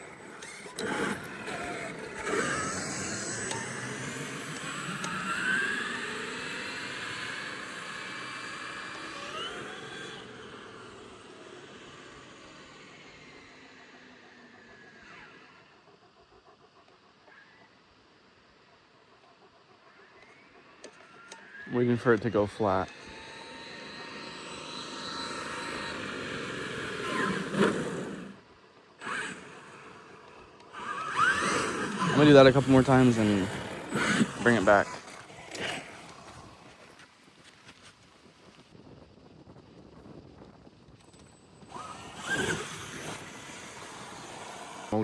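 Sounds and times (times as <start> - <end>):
electric motor whining: 0.0 - 16.1, 20.0 - 37.3, 40.0 - 45.0.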